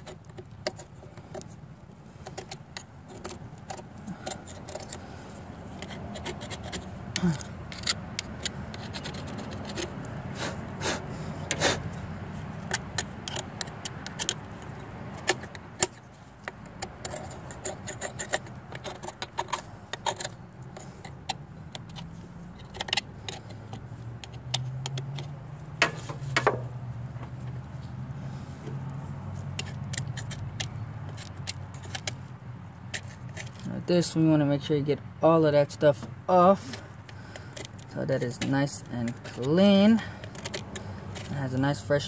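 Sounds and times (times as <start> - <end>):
tool scraping gasket residue: 2.2 - 26.6, 29.4 - 33.7, 36.0 - 41.6.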